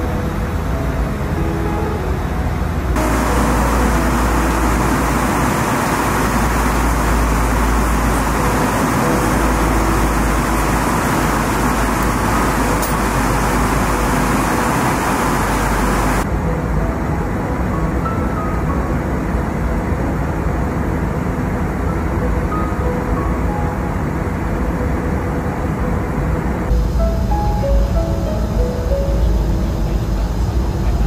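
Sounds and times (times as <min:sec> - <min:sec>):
aircraft cabin noise: 0:00.0 - 0:19.2, 0:19.9 - 0:31.0.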